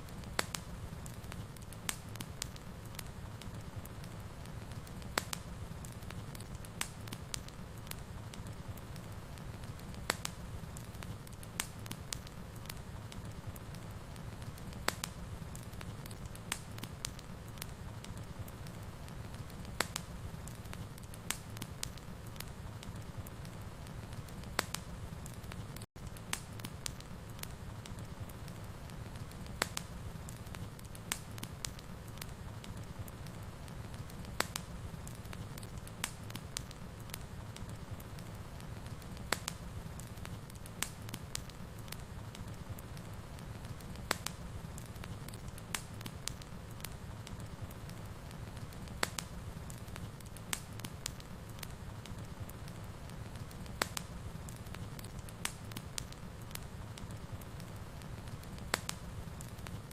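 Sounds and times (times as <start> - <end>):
fire crackles and pops: 0.0 - 59.9
wood fire rumbling: 0.0 - 59.9.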